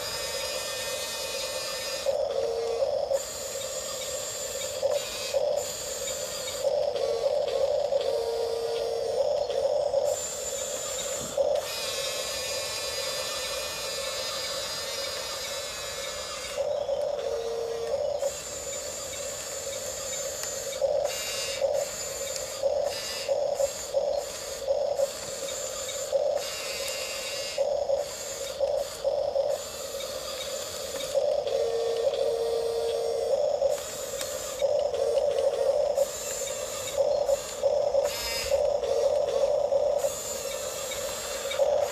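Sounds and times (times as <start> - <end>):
toy bulldozer motors whirring: 0.0 - 41.9.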